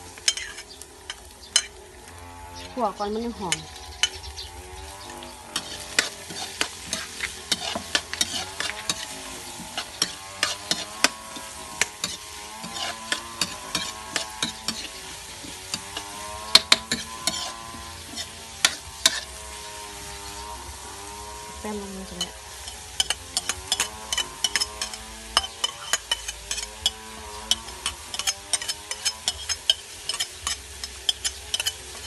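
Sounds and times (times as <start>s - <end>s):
aromatics sizzling in hot oil: 0.0s - 32.0s
metal spatula scraping a wok: 0.0s - 32.0s.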